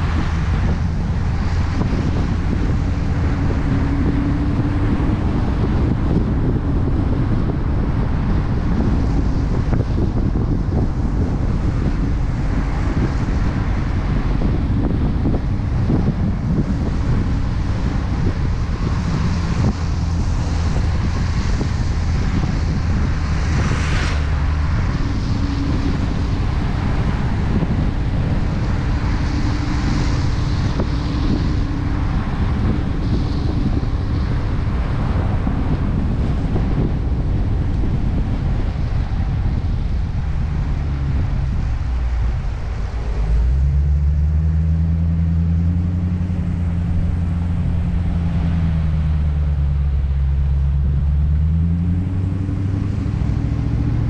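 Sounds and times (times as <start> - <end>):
car engine rumble: 0.0 - 54.0
wind buffeting microphone: 0.0 - 54.0.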